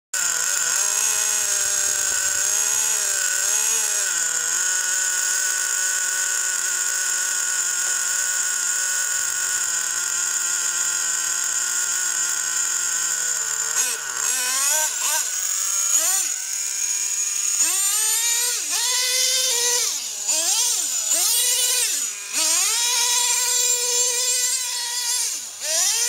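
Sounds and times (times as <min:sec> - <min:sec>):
small nitro engine idling and revving: 0:00.2 - 0:26.0.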